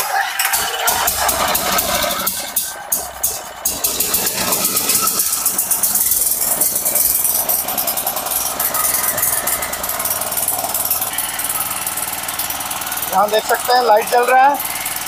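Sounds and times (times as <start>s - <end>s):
small engine running steadily: 0.4s - 15.0s.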